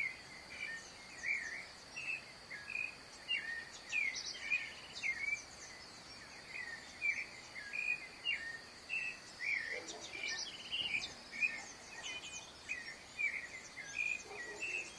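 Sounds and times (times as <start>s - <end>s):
bird chorus chirping: 0.0s - 14.9s.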